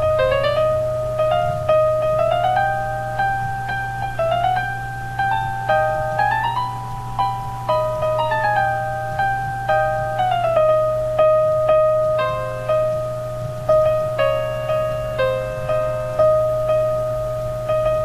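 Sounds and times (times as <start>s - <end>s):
plucked piano-like runs: 0.0s - 18.0s
steady low hum: 0.0s - 18.0s.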